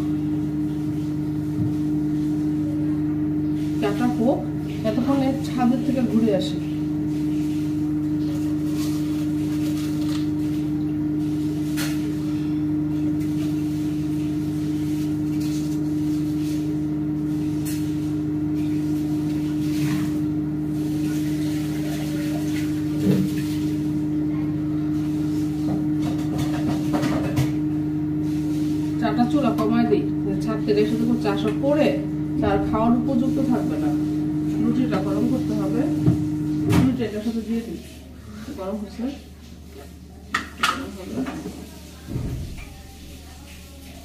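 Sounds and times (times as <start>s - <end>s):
low electrical motor hum: 0.0s - 44.0s.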